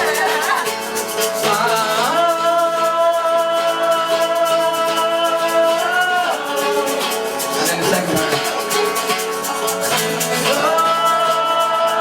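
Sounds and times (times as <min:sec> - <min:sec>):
shaker rhythm: 0:00.0 - 0:12.0.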